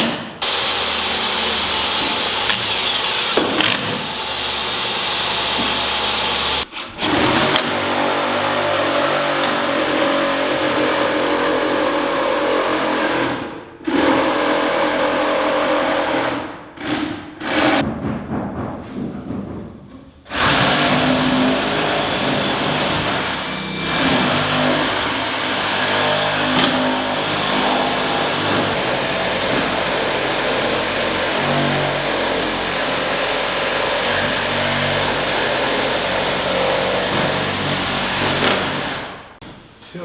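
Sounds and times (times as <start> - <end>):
power tool cutting: 0.0 - 13.2, 20.3 - 39.2.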